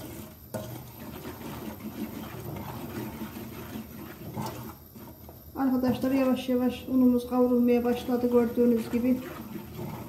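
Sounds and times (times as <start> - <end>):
wooden spoon scraping a pan: 0.0 - 10.0.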